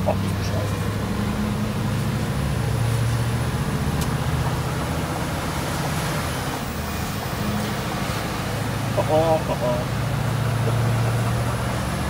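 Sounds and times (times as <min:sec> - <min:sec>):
diesel engine drone in cab: 0:00.0 - 0:12.0.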